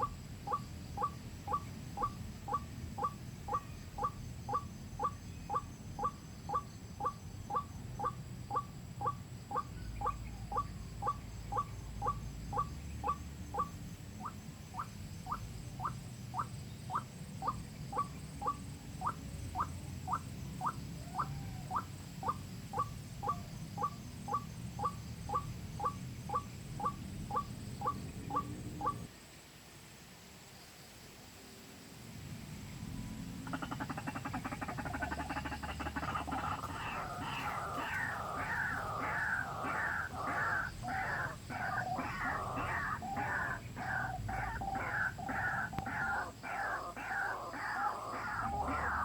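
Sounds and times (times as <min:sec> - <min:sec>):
recorded waterhen calls: 0:00.0 - 0:29.1, 0:33.4 - 0:49.0.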